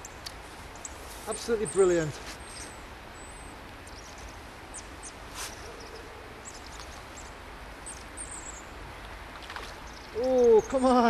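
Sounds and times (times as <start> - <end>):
robin singing faintly: 0.0 - 9.0, 9.6 - 11.0
background hiss: 0.0 - 11.0.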